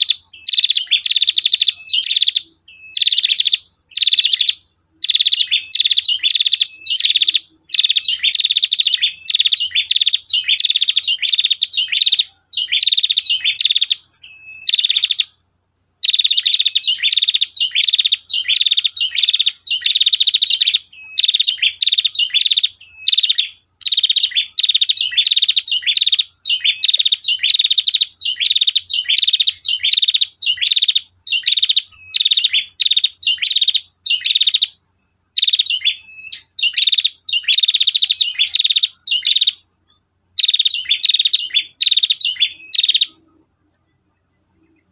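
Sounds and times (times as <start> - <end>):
bird calling in dry trills: 0.0 - 44.9.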